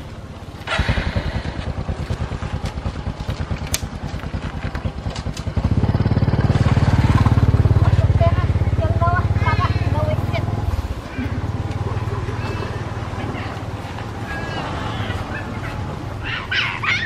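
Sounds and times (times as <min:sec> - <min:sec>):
small engine puttering: 0:00.5 - 0:16.2.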